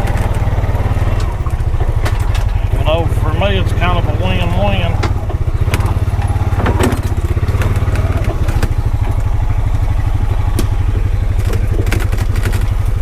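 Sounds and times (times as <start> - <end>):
body and suspension rattling: 0.0 - 13.0
utility vehicle engine running: 0.0 - 13.0.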